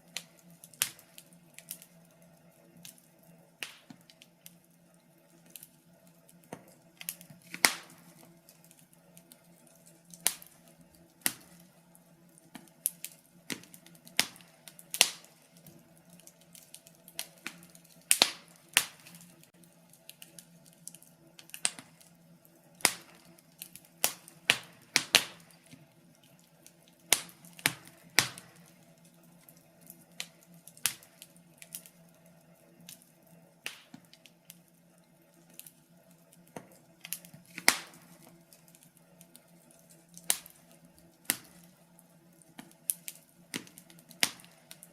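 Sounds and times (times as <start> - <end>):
faint steady hum: 0.0 - 44.9
wood fire crackling and popping: 0.0 - 44.9.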